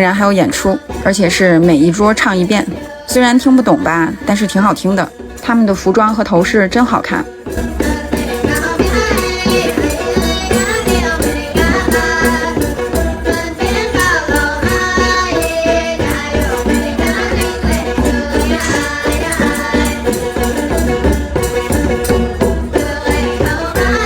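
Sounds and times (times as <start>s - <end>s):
people singing folk song: 0.0s - 24.0s
percussion steady beat: 0.0s - 24.0s.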